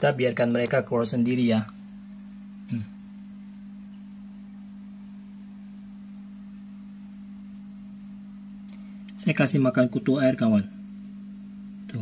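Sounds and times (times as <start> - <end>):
aquarium air pump humming: 0.0 - 12.0.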